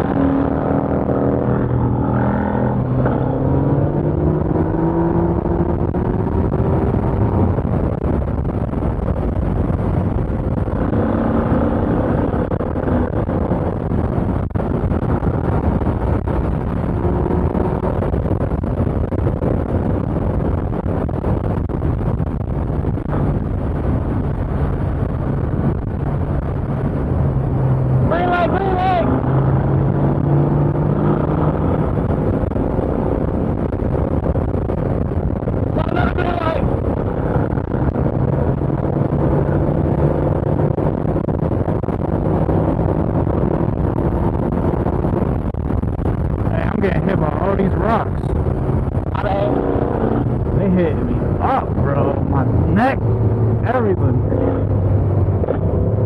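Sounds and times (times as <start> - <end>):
motorcycle engine accelerating: 0.0 - 56.0
wind rush: 0.0 - 56.0.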